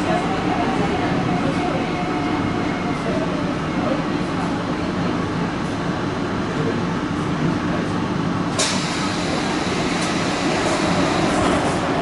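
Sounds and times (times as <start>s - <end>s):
train rumble and motor hum: 0.0s - 12.0s.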